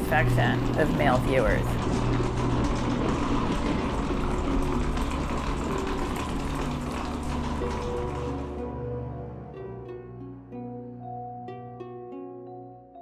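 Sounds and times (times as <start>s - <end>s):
sustained low music notes: 0.0s - 13.0s.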